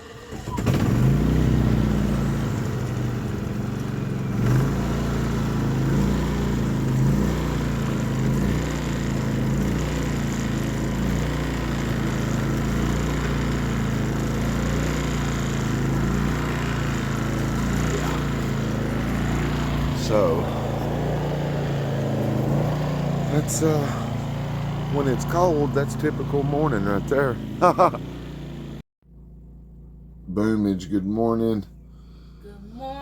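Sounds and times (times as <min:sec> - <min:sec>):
small petrol generator engine running: 0:00.0 - 0:30.6.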